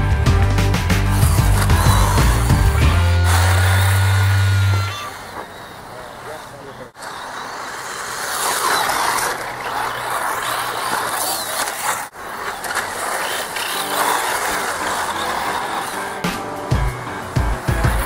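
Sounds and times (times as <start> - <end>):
tyres on loose dirt: 0.0 - 18.0
electric motor whining: 0.3 - 18.0.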